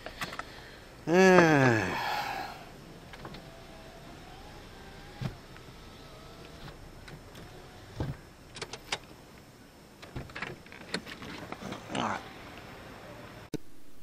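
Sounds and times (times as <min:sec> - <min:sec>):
faint steady background: 0:00.0 - 0:14.0.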